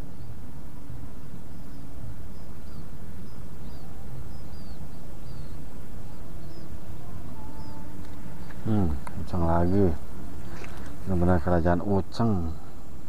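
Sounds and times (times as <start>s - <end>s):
low outdoor rumble: 0.0s - 13.0s
small bird chirping: 1.1s - 12.7s.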